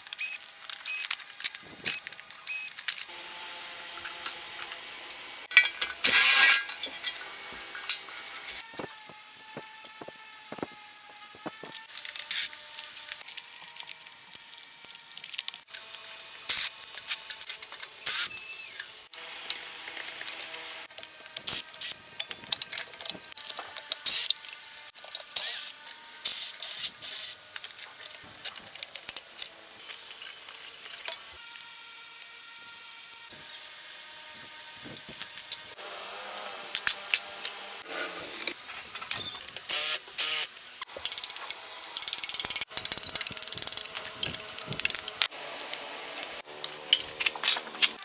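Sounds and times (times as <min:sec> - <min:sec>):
tools clicking and clinking: 0:05.5 - 0:35.8, 0:36.4 - 0:48.0.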